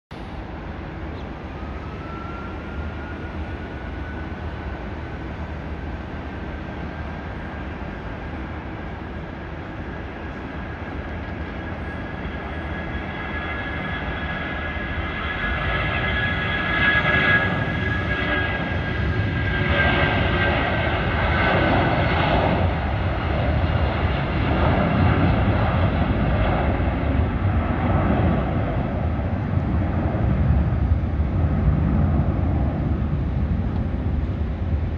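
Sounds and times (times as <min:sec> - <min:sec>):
deep jet engine rumble: 0:00.1 - 0:34.9
jet engines high whine: 0:00.1 - 0:34.9.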